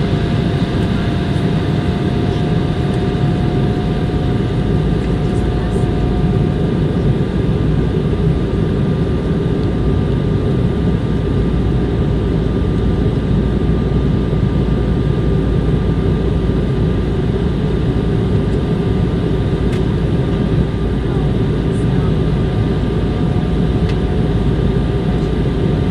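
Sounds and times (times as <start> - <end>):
jet engine and airflow rumble: 0.0 - 25.9.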